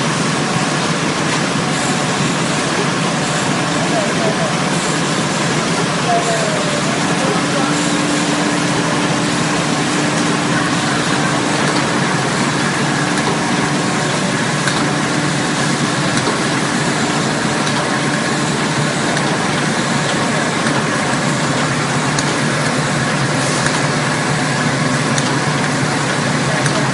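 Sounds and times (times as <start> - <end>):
packaging machine running: 0.0 - 26.9.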